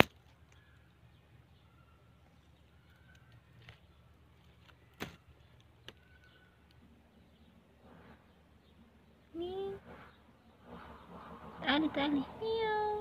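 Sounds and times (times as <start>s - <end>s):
faint bird chirps: 0.3s - 12.4s.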